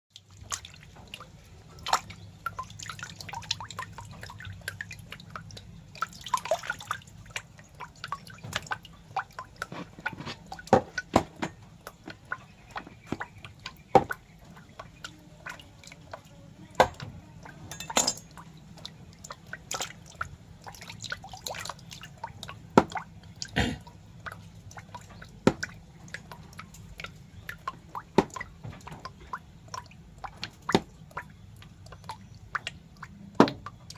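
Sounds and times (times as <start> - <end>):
wet clicks and drips: 0.1 - 33.9.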